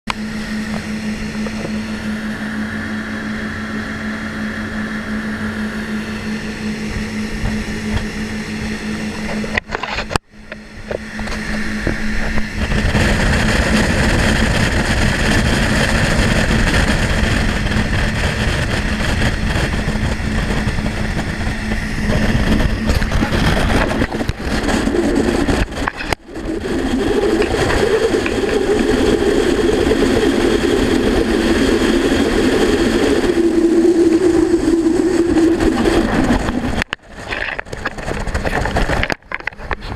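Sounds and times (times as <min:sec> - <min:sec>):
outboard engine running: 0:00.1 - 0:39.9
rush of wind and water: 0:00.1 - 0:39.9.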